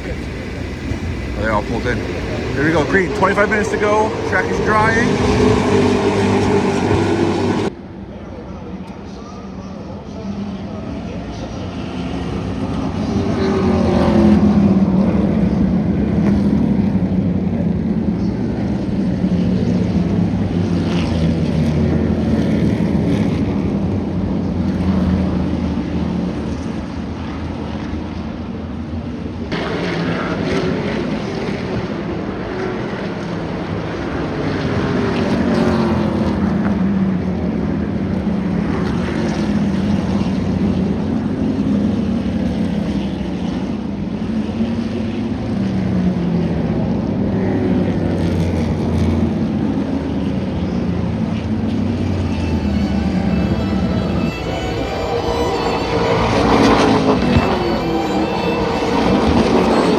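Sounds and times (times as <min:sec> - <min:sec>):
race cars passing: 0:00.0 - 0:59.9.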